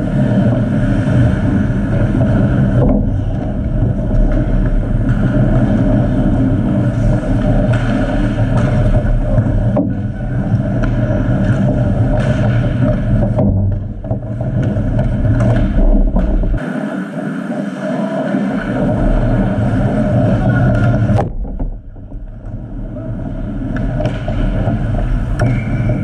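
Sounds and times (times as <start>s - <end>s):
low rumble: 0.0s - 16.6s, 18.6s - 26.0s
skates scraping ice: 0.0s - 21.2s
hockey sticks clicking: 2.2s - 16.4s, 18.5s - 26.0s.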